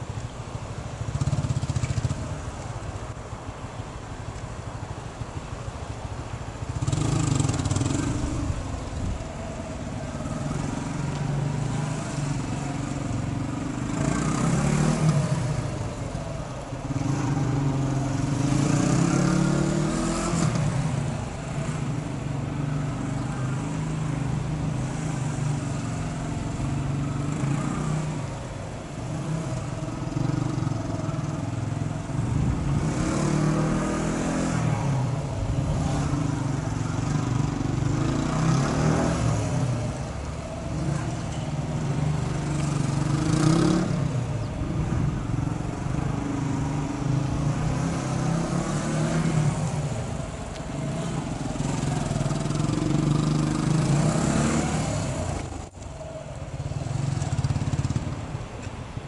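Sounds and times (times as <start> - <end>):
motorcycle engine revving: 1.0 - 2.4, 6.6 - 22.0, 22.7 - 55.8.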